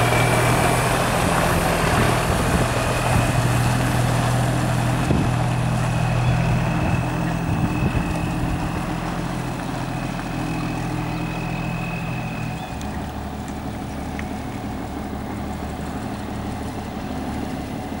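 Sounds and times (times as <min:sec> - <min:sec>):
high whine: 0:00.0 - 0:16.6
truck diesel engine pulling away: 0:00.0 - 0:18.0.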